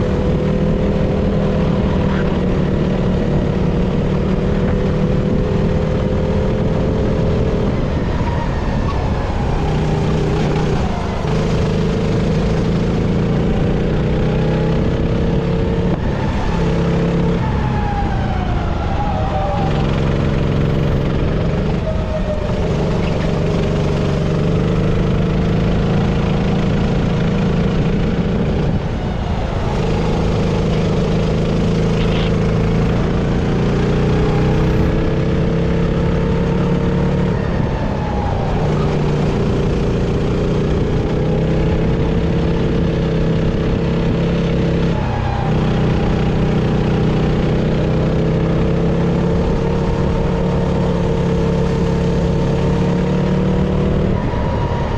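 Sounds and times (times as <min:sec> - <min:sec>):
kart engine running hard: 0:00.0 - 0:54.9.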